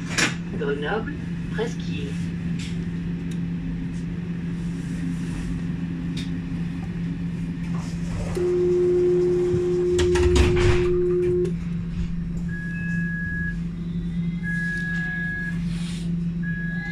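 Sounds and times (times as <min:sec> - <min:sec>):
tram electrical hum: 0:00.0 - 0:16.9
steady warning tone: 0:00.6 - 0:16.9.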